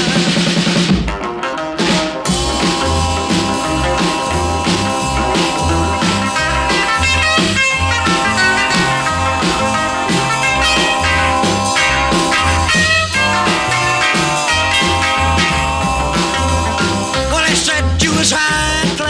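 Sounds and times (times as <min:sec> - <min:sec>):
bass guitar: 0:00.0 - 0:19.0
driving drum beat: 0:00.0 - 0:19.0
electric guitar solo: 0:01.2 - 0:18.0.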